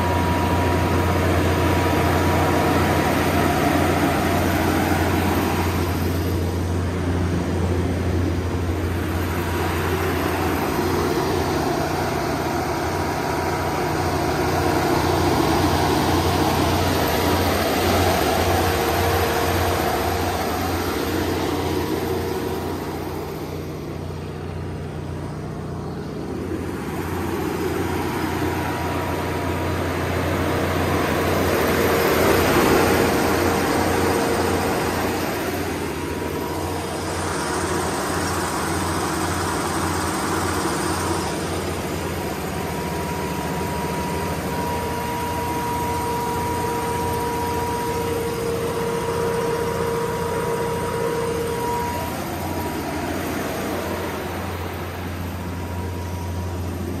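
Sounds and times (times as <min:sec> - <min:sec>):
generator engine droning: 0:00.0 - 0:57.0.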